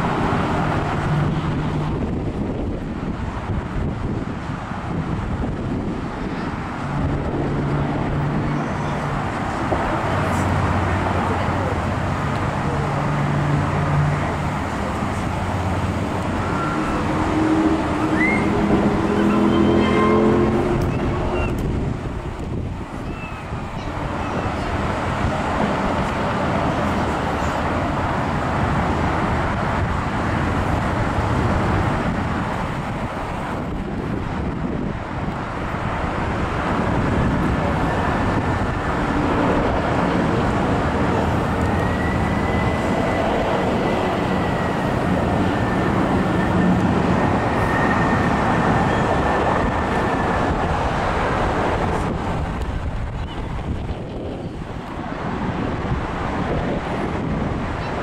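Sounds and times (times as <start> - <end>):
traffic rumble: 0.0 - 58.0.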